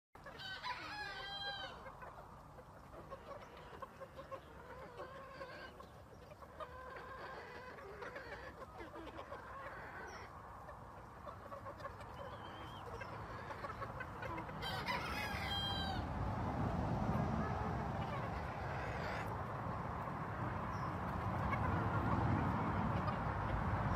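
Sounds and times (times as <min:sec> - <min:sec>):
chickens clucking and calling: 0:00.2 - 0:23.9.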